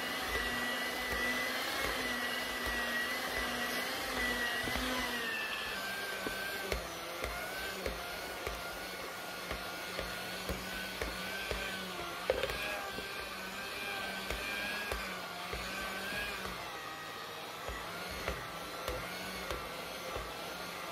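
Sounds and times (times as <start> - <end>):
electric mixer motor whine: 0.0 - 20.9.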